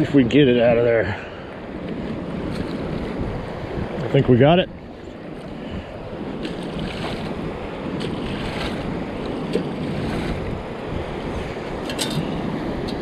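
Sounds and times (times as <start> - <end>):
surf washing across sand: 0.0 - 13.0
wind buffeting the microphone: 0.0 - 13.0.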